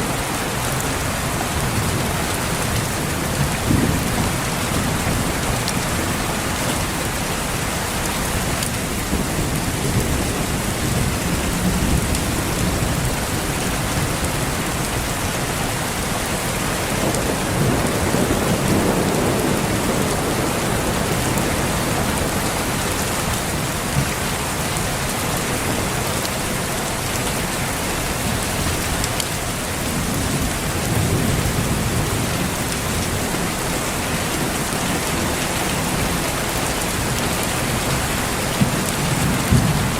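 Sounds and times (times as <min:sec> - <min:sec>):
heavy rain falling on leaves: 0:00.0 - 0:39.9.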